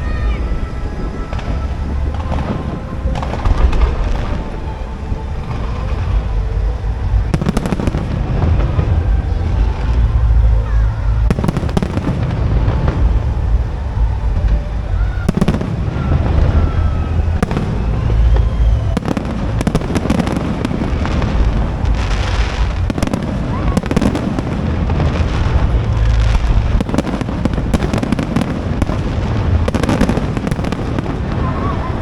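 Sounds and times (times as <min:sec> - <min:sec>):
fireworks booming: 0:00.0 - 0:32.0
fireworks crackling: 0:00.0 - 0:32.0.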